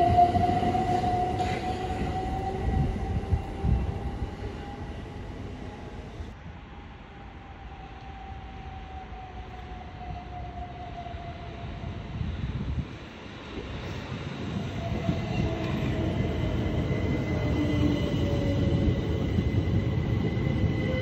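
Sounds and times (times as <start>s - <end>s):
wheels rumbling on rail: 0.0s - 8.2s, 8.9s - 21.0s.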